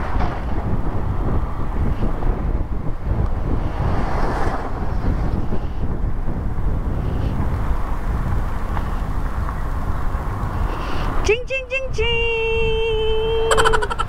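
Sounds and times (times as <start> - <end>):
road and traffic noise: 0.0 - 14.0
wind rushing over microphone: 0.0 - 14.0.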